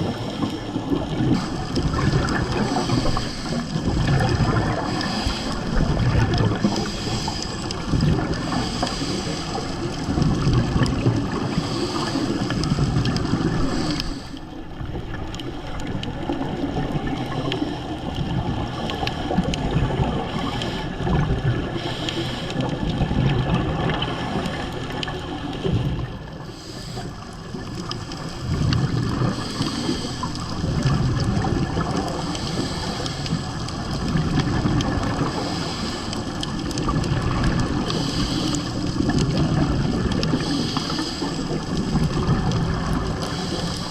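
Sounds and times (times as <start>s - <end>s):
water churning and gurgling: 0.0s - 43.9s.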